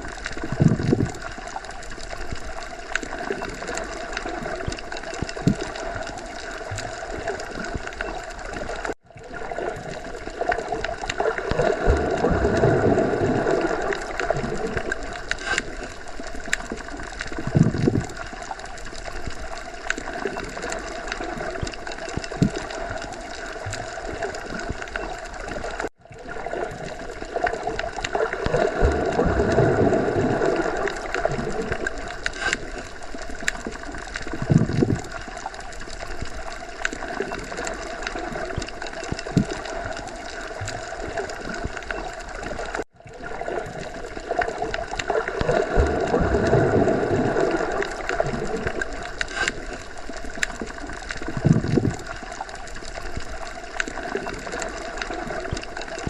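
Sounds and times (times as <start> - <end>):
underwater water wash: 0.0 - 56.0.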